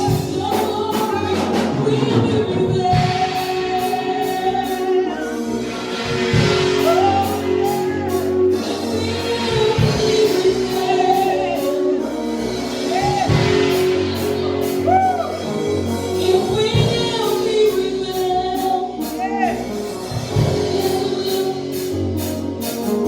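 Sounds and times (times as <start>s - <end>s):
sustained instrumental chords: 0.0s - 23.0s
voices singing gospel: 0.0s - 23.0s.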